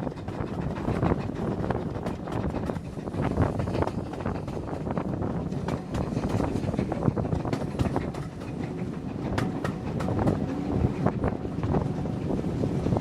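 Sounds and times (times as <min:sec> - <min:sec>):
railway carriage rumbling: 0:00.0 - 0:13.0
wheels clicking on rails: 0:00.0 - 0:13.0.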